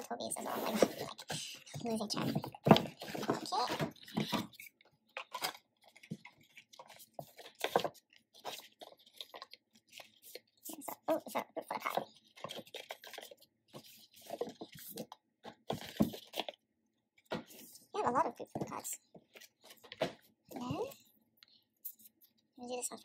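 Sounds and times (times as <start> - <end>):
cards and cardboard rustling: 0.1 - 16.6, 17.2 - 22.4.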